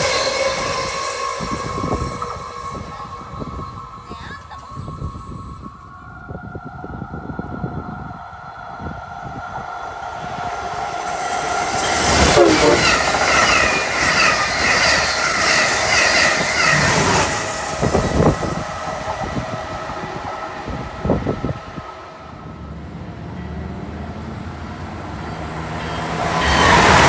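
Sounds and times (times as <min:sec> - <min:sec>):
high wavering wheel squeals: 0:00.0 - 0:21.6, 0:23.9 - 0:27.0
train approaching: 0:00.0 - 0:27.0
train passing at speed: 0:00.0 - 0:27.0.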